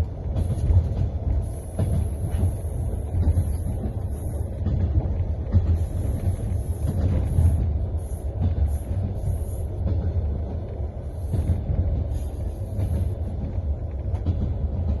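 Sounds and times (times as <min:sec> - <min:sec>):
train rumble inside carriage: 0:00.0 - 0:15.0
wheels knocking on rails: 0:00.0 - 0:15.0.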